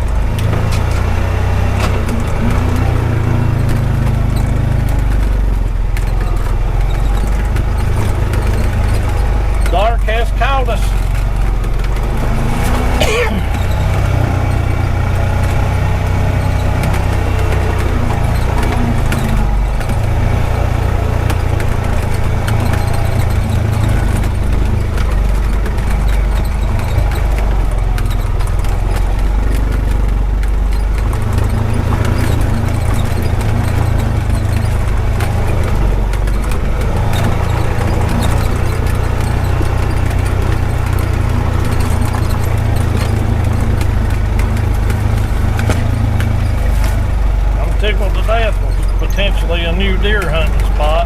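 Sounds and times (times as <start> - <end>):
low engine drone: 0.0 - 51.0.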